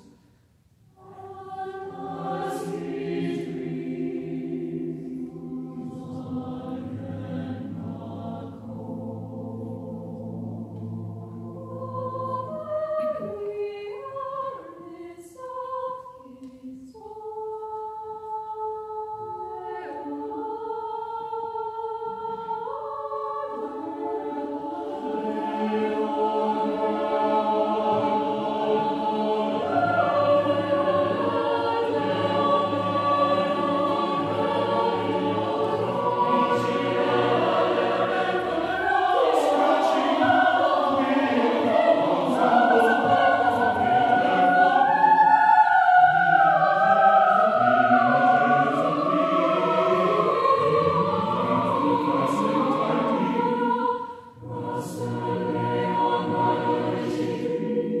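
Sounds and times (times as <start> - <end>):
choir singing unaccompanied: 1.0 - 58.0.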